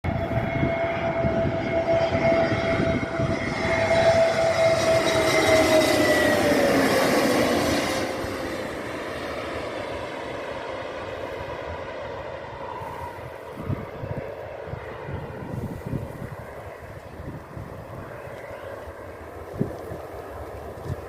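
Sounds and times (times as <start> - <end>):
jet aircraft flying past: 0.0 - 21.0.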